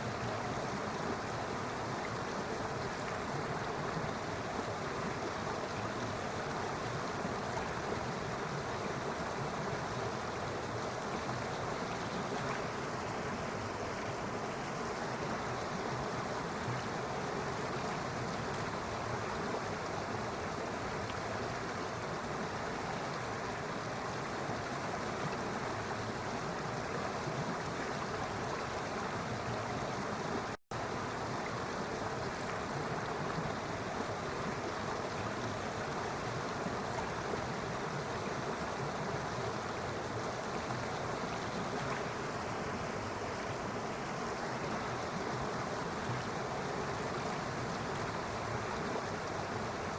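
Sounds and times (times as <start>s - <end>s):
stream water flowing: 0.0s - 49.9s.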